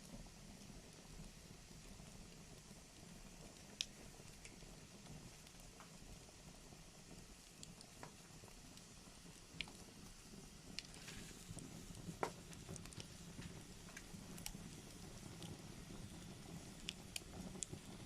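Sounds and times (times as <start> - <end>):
low steady hiss: 0.0 - 18.0
wood fire crackling: 0.0 - 18.0
fire pops and snaps: 0.5 - 18.0.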